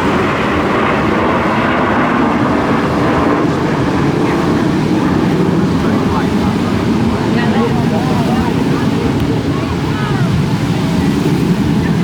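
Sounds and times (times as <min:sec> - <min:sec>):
aircraft roar flying over: 0:00.0 - 0:12.0.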